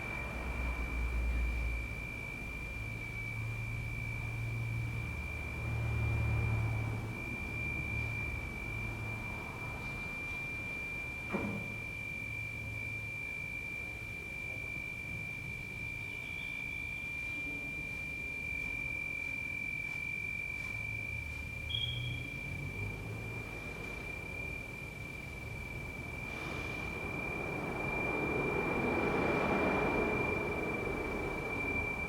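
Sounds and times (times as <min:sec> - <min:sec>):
high-pitched pure tone: 0:00.0 - 0:32.0.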